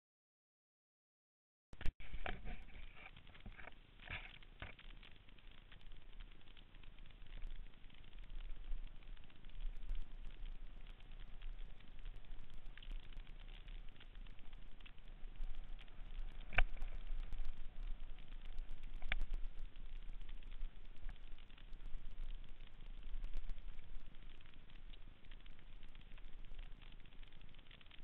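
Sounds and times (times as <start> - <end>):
low rumble: 5.3 - 28.0.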